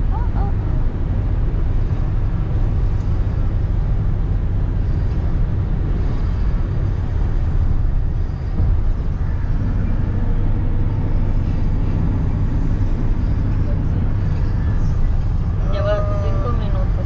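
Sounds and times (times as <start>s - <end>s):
car cabin road rumble: 0.0s - 17.0s.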